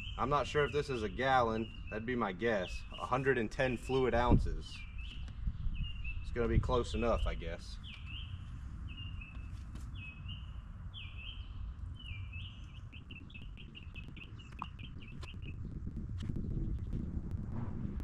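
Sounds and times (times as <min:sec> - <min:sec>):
songbird calling: 0:00.0 - 0:06.4, 0:07.2 - 0:15.7
low background rumble: 0:00.0 - 0:18.0.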